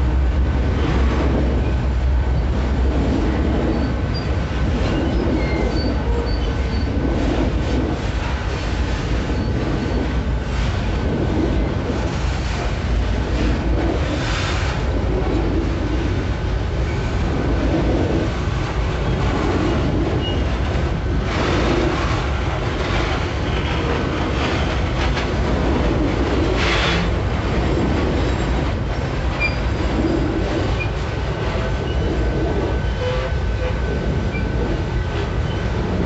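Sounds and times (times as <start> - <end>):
freight train rumbling past: 0.0 - 36.0
wheels clacking over rail joints: 0.0 - 36.0.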